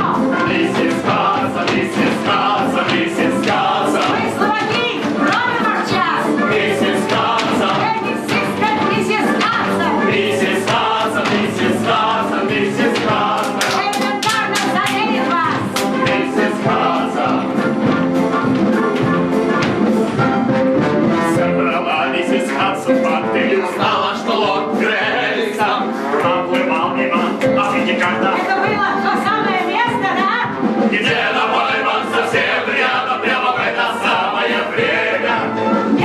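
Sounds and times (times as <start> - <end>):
voices singing together: 0.0 - 19.2, 21.3 - 36.0
instrumental accompaniment: 0.0 - 36.0.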